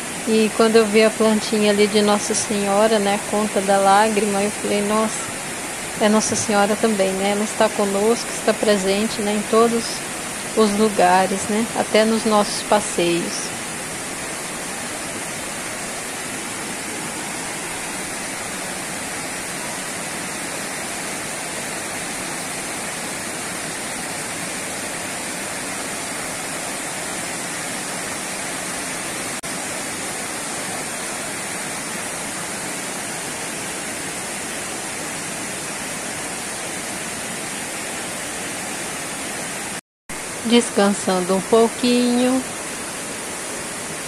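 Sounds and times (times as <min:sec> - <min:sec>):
river rapids rushing: 0:00.0 - 0:44.0.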